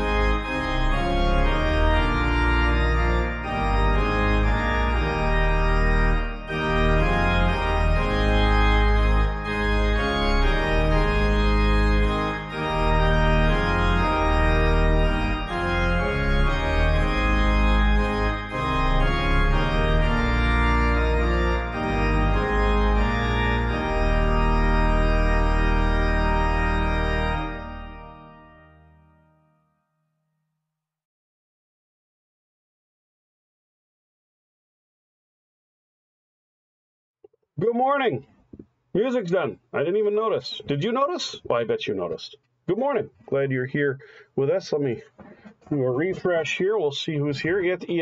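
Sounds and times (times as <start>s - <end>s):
organ chords: 0.0s - 29.6s, 37.6s - 38.2s, 39.0s - 48.0s.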